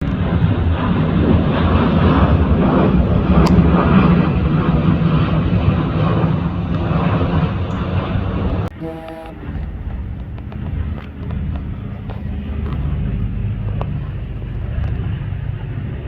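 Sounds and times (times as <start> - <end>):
jet engines rumbling: 0.0 - 8.7, 9.4 - 16.0.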